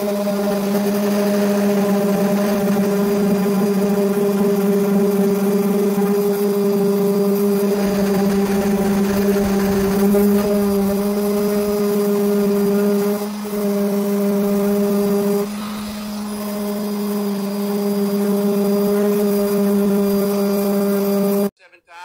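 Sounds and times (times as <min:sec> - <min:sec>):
handheld sander on metal: 0:00.0 - 0:21.5.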